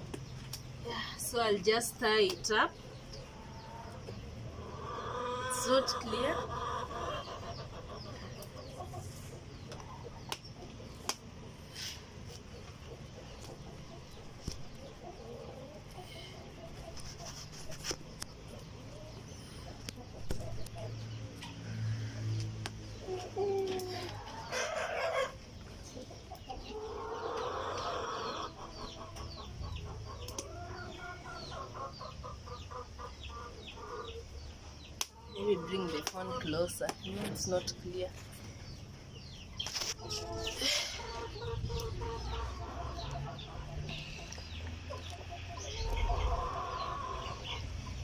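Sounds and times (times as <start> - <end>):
chickens clucking: 0.0 - 48.0.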